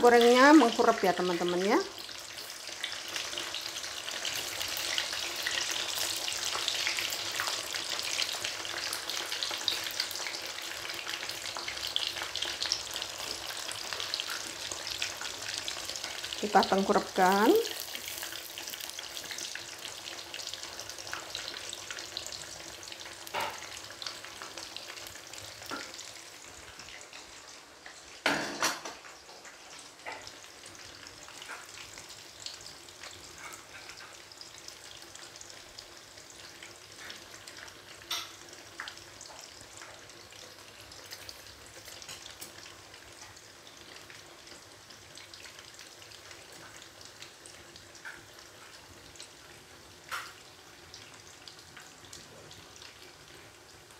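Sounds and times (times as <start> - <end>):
eggplant deep-frying in oil: 0.0 - 53.9.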